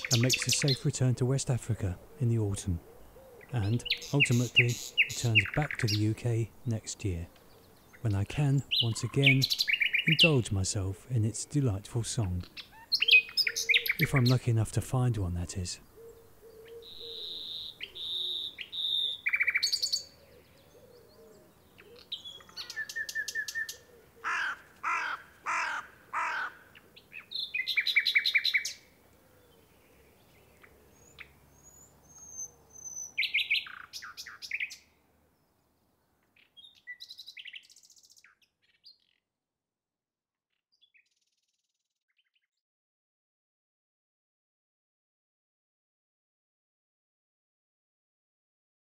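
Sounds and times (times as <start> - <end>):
nightingale singing: 0.0 - 39.3.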